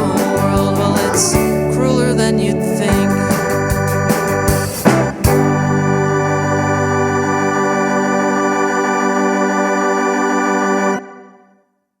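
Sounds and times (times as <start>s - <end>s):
sustained chord: 0.0s - 11.6s.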